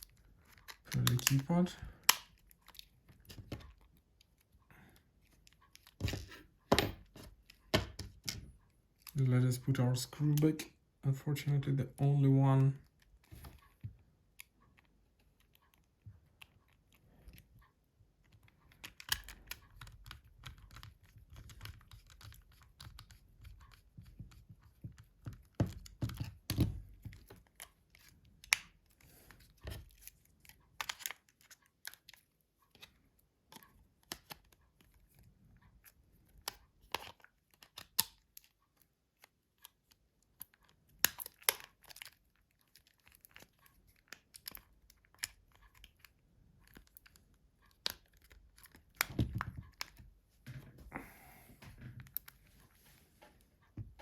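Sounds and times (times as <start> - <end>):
plastic parts clicking and tapping: 0.0 - 9.2, 12.6 - 50.7, 51.6 - 52.4.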